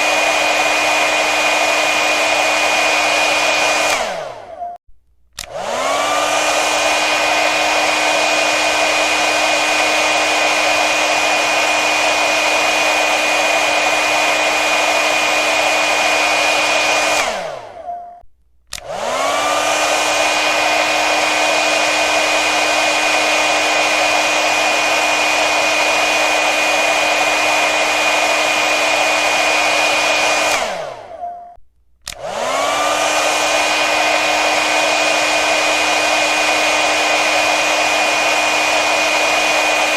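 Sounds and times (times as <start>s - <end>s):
hair dryer blowing: 0.0s - 4.6s, 5.4s - 17.9s, 18.7s - 31.3s, 32.0s - 39.9s.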